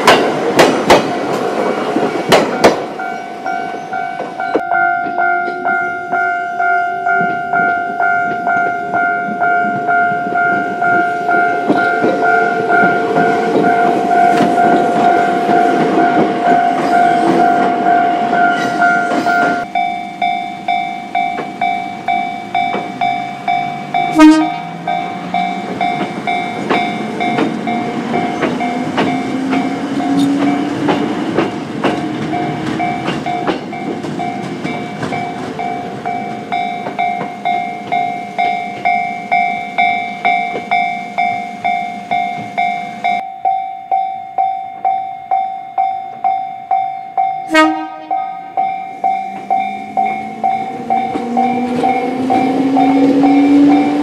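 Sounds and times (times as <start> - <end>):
train wheel clatter: 0.0 - 6.2, 7.1 - 19.9, 20.7 - 43.2, 48.6 - 54.0
level crossing warning bell: 1.0 - 54.0.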